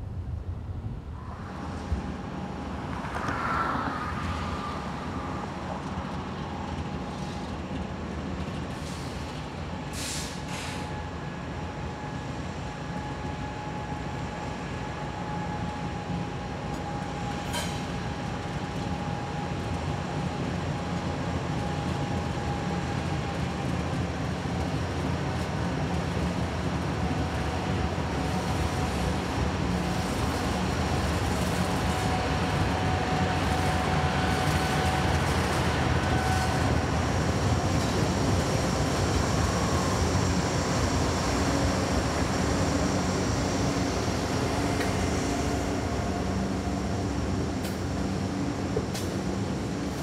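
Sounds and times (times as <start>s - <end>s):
train rumbling by: 0.0s - 50.0s.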